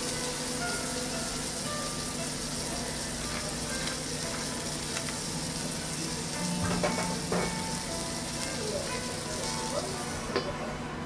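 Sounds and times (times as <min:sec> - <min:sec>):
steak sizzling on a griddle: 0:00.0 - 0:10.5.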